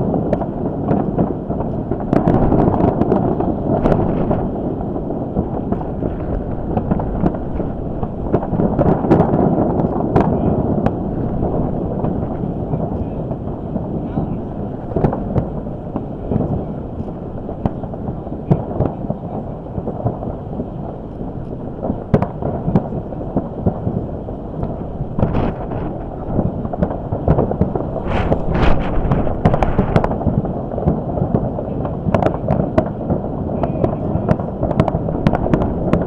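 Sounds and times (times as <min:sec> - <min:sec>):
distant fireworks booming: 0:00.0 - 0:36.0
sharp firework cracks: 0:00.0 - 0:36.0
wind buffeting microphone: 0:00.0 - 0:36.0.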